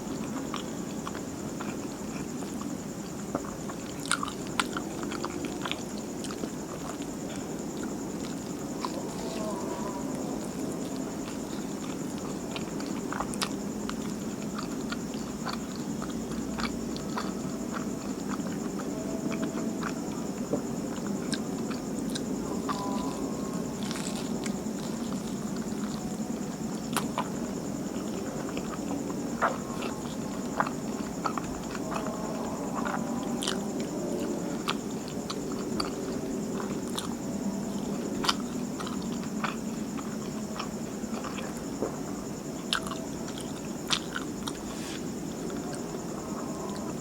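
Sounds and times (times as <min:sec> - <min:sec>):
background hum: 0:00.0 - 0:47.0
chewing and biting pancake: 0:00.1 - 0:09.5, 0:10.4 - 0:47.0.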